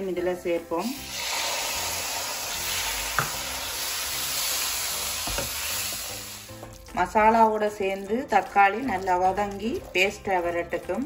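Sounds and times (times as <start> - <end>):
tomato sizzling in hot oil: 0.7 - 11.0.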